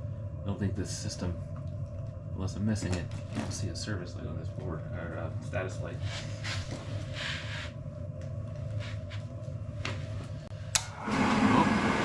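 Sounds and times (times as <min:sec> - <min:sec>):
furnace running: 0:00.0 - 0:12.0
low hum: 0:00.0 - 0:12.0.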